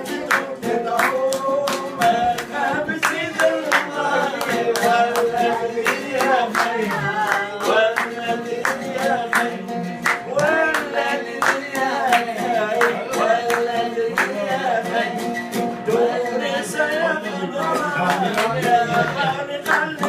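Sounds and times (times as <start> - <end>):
hand clapping: 0.0 - 15.7, 17.6 - 20.0
oud playing: 0.0 - 20.0
person singing: 0.0 - 20.0.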